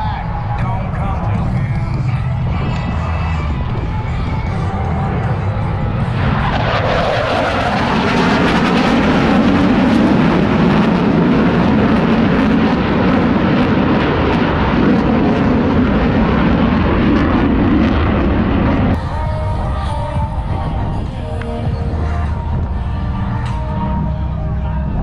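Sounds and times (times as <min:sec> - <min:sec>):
jet engines passing overhead: 0:00.0 - 0:25.0.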